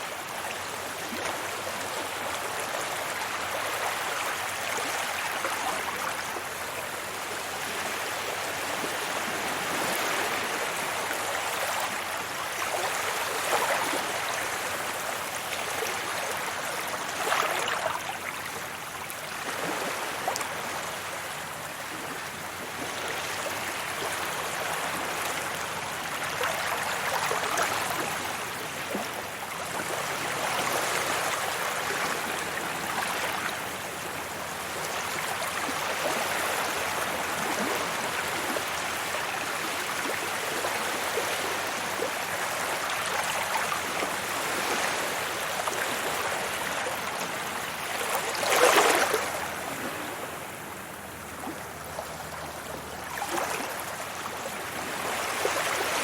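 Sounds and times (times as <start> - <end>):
sea waves washing onto a beach: 0.0 - 56.0.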